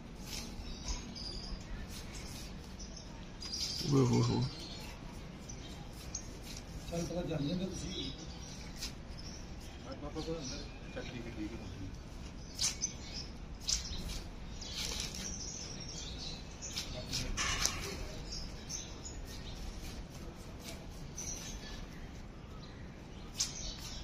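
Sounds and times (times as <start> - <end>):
birds chirping: 0.0 - 24.0
low background noise: 0.0 - 24.0.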